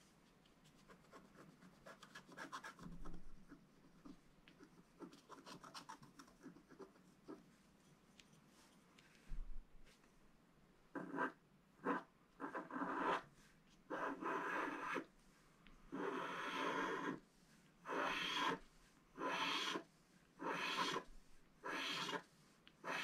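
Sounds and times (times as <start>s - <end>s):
stylus scratching coated paper: 0.6s - 8.5s, 11.0s - 15.1s, 15.9s - 23.0s.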